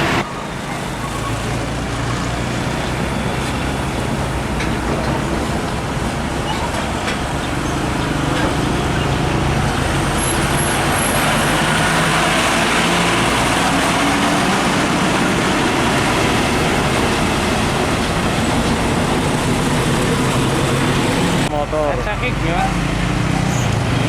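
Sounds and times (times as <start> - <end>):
diesel truck engine drone: 0.0 - 24.0
tyre and traffic noise: 0.0 - 24.0.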